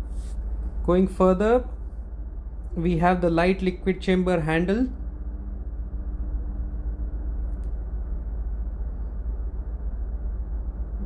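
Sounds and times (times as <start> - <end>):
engine room machinery rumble: 0.0 - 11.0.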